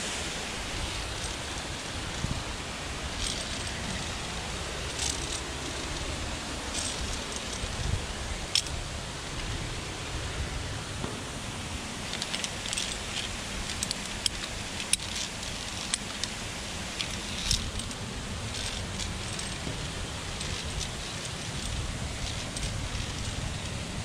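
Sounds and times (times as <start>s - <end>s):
wind rumbling on microphone: 0.0s - 24.0s
metallic clinks of climbing gear: 0.7s - 8.8s, 12.0s - 23.8s.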